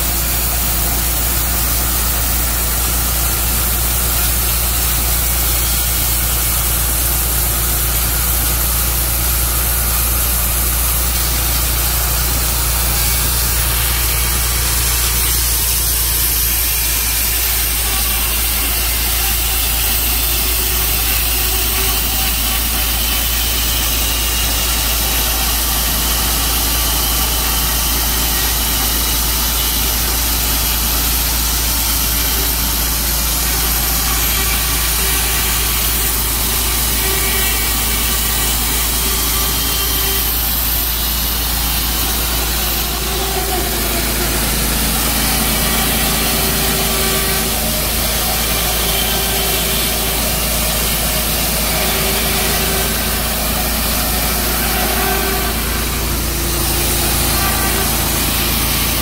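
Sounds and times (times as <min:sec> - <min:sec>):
sawmill engine cutting log: 0:00.0 - 0:59.0.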